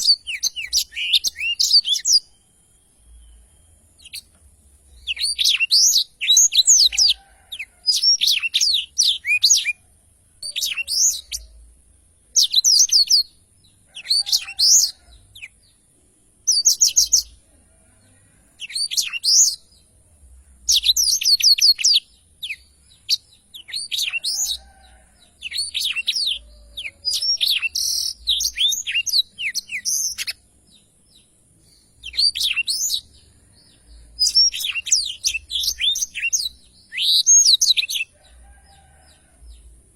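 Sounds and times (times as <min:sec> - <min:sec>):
canary singing twittering phrases: 0:00.0 - 0:15.8, 0:16.4 - 0:39.8.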